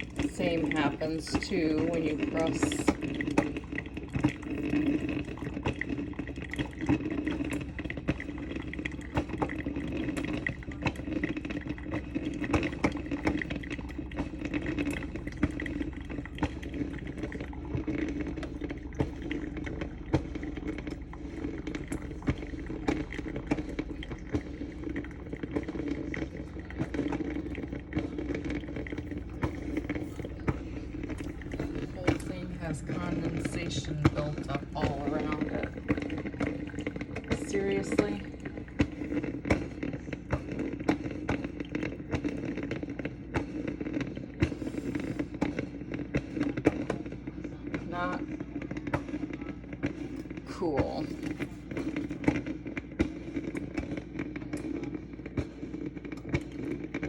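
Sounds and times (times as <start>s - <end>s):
coffee maker humming: 0.0s - 57.0s
small pops and crackles: 0.0s - 57.0s
water bubbling: 0.0s - 57.0s.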